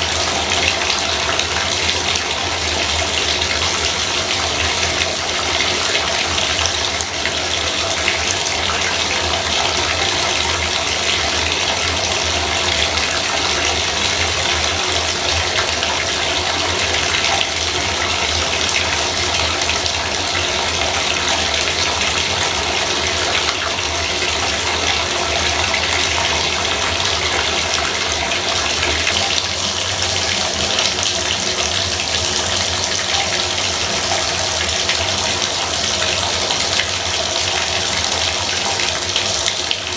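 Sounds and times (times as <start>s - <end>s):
bathtub faucet running: 0.0s - 39.9s.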